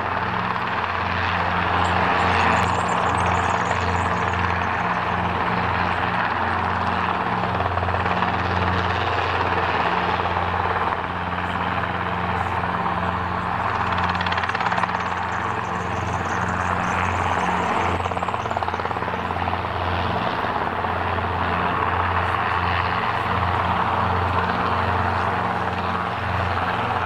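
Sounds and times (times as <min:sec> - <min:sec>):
helicopter flying low: 0:00.0 - 0:27.0.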